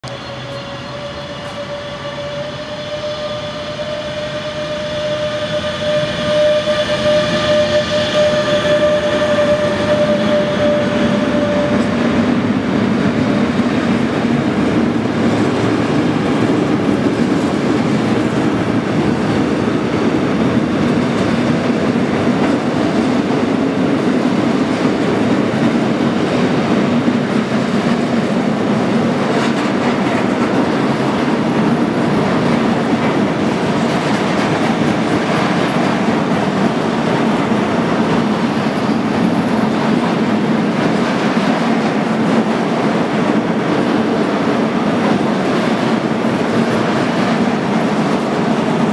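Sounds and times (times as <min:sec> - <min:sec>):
electric locomotive whine: 0:00.0 - 0:48.9.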